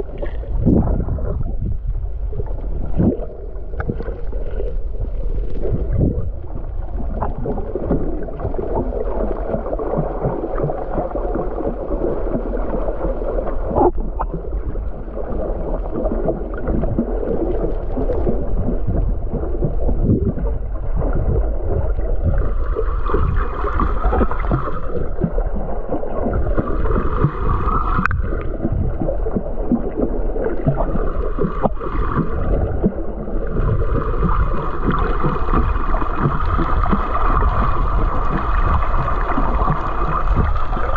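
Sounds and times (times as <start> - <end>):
boat motor hum underwater: 0.0 - 40.9
underwater water rush: 0.0 - 40.9.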